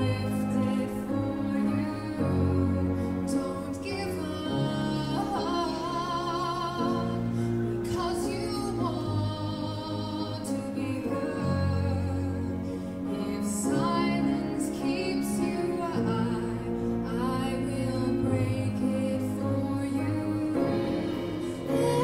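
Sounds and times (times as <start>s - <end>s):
instrumental accompaniment: 0.0s - 22.0s
woman singing slow song: 0.0s - 22.0s.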